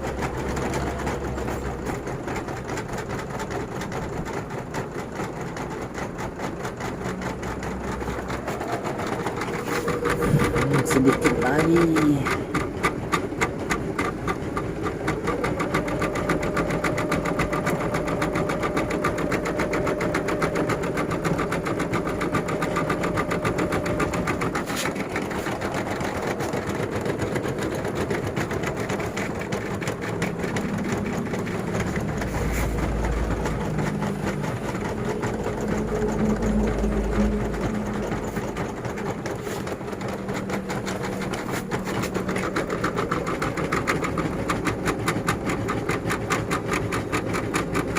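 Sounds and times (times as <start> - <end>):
embroidery machine stitching: 0.0 - 47.9.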